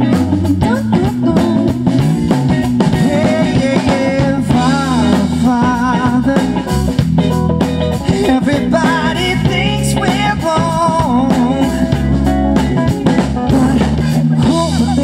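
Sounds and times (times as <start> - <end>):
person singing: 0.0 - 2.3, 2.9 - 7.0, 8.0 - 12.2, 13.0 - 15.0
bass guitar: 0.0 - 15.0
drum kit: 0.0 - 15.0
electric guitar: 0.0 - 15.0.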